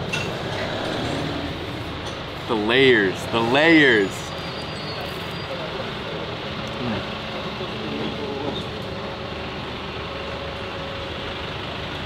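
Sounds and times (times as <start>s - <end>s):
bus engine hum: 0.0s - 12.0s
road noise: 0.0s - 12.0s.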